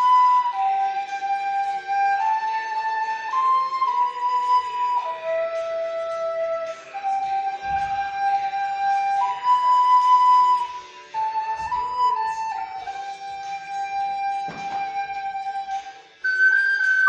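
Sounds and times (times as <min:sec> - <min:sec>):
recorder playing melody: 0:00.0 - 0:17.0.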